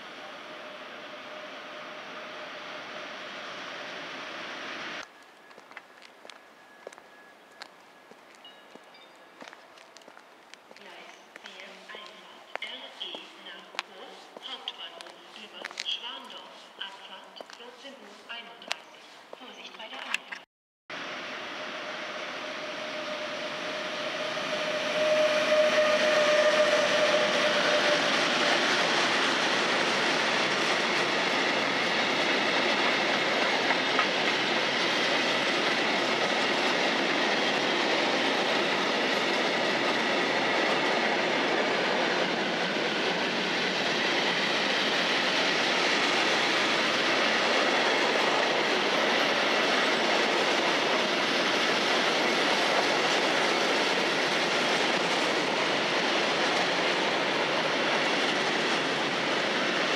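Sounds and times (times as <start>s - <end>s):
electric locomotive passing: 0.0s - 19.7s, 20.9s - 59.9s
steady locomotive whine: 0.0s - 19.7s, 20.9s - 59.9s
freight train wheels on rails: 0.0s - 20.4s, 21.0s - 59.9s.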